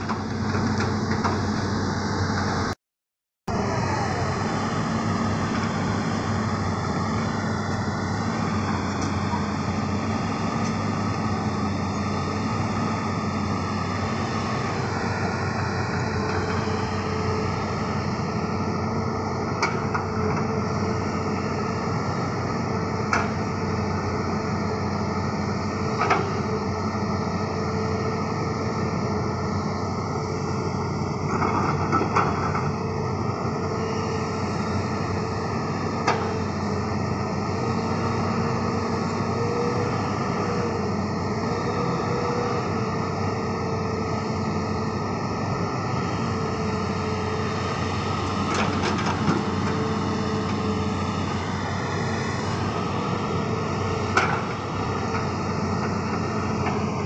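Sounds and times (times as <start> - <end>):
excavator diesel engine running: 0.0 - 2.8, 3.5 - 57.0.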